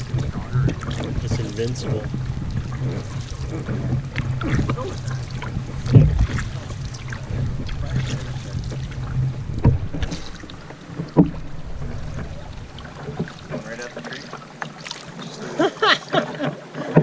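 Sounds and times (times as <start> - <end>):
steady low hum: 0.0 - 16.0
paddle strokes: 0.0 - 17.0
swishing water: 0.0 - 17.0.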